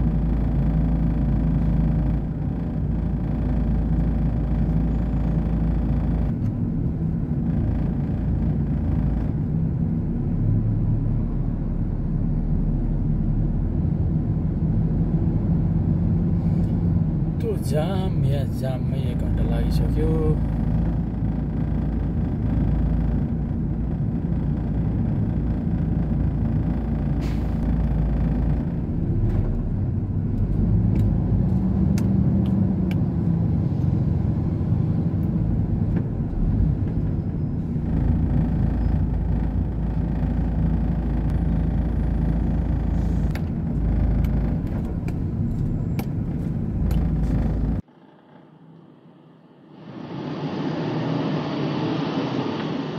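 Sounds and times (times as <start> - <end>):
truck diesel engine rumbling: 0.0 - 52.9.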